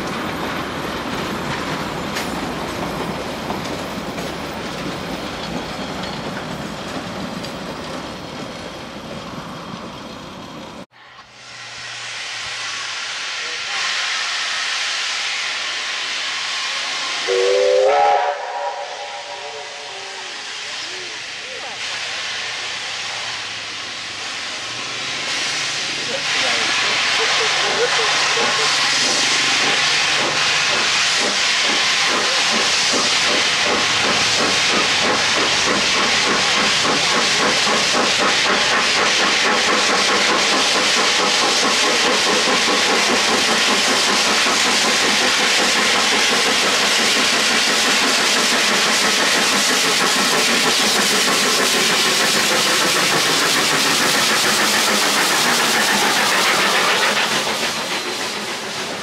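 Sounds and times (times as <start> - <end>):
loud hissing steam: 0.0 - 59.0
steam locomotive exhaust chuffing: 0.0 - 59.0.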